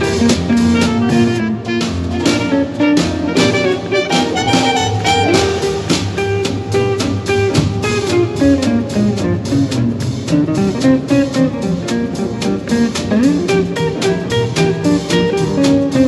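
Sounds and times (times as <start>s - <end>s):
electric guitar single-note line: 0.0s - 16.0s
swing jazz band playing: 0.0s - 16.0s.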